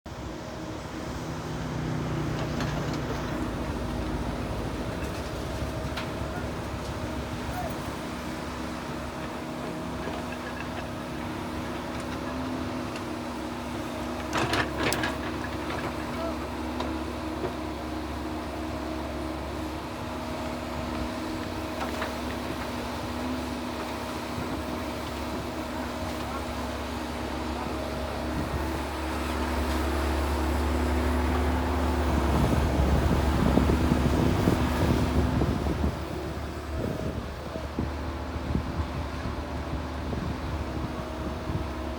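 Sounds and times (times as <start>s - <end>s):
excavator engine running: 0.1s - 41.9s.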